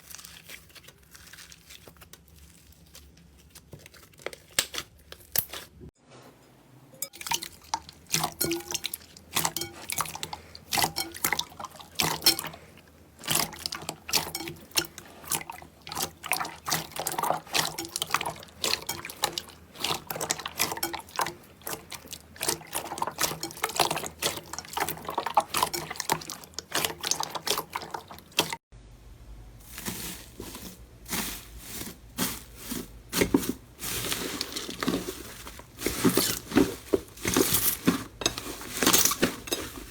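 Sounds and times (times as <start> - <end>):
slime squelching by hand: 0.0 - 5.8, 7.0 - 28.6, 29.6 - 39.9
low steady hum: 6.1 - 39.9.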